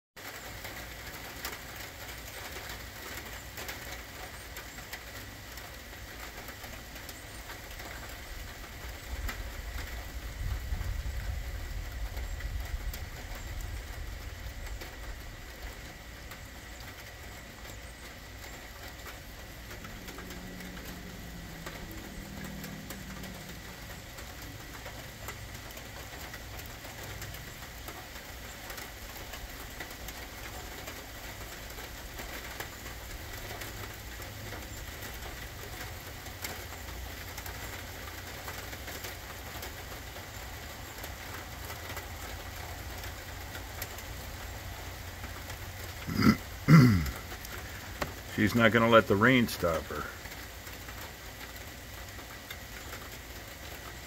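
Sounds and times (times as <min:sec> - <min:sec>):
rain pattering: 0:00.2 - 0:54.0.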